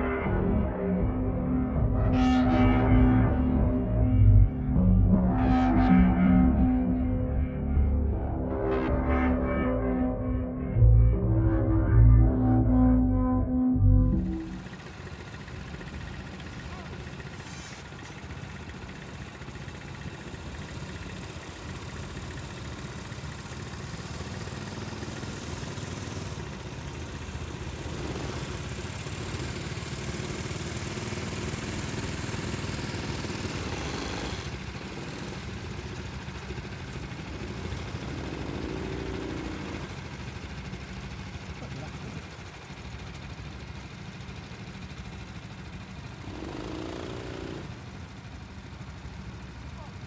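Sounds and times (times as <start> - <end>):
go-kart engines running: 0.0 - 13.0, 14.1 - 50.0.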